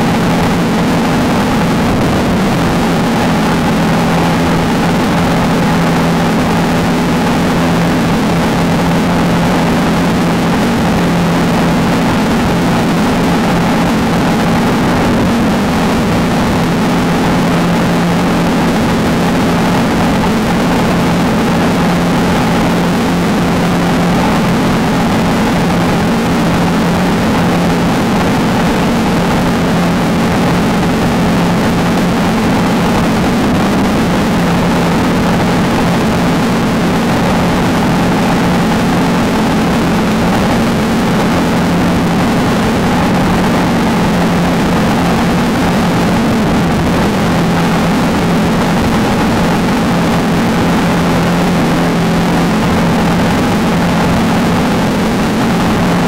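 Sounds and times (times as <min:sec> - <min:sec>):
constant rushing noise: 0:00.0 - 0:56.0
race car engine running hard: 0:00.0 - 0:56.0.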